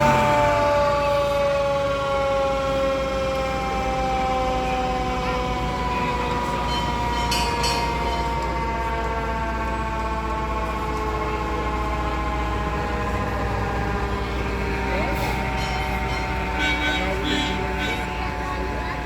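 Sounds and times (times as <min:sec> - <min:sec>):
fire truck siren winding down: 0:00.0 - 0:19.0.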